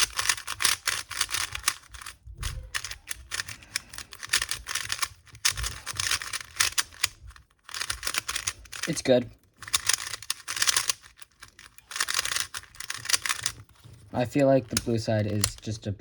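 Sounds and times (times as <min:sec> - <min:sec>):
plastic puzzle cube clicking: 0:00.0 - 0:15.8.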